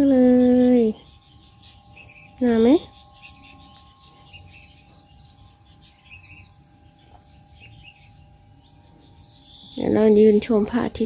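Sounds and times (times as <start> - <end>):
faint bird chirps: 0.0 - 10.9
faint steady tone: 0.0 - 11.0
low background hiss: 0.0 - 11.0.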